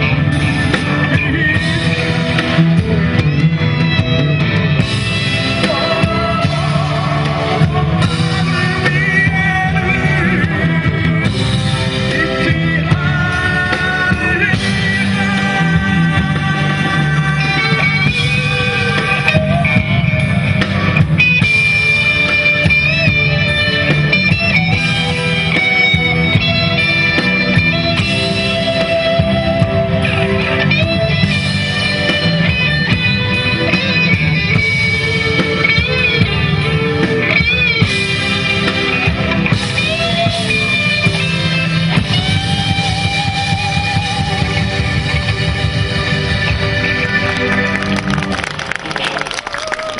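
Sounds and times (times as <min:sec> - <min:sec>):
steady bass line: 0:00.0 - 0:49.6
band playing rock music: 0:00.0 - 0:49.9
lead guitar: 0:00.0 - 0:49.9.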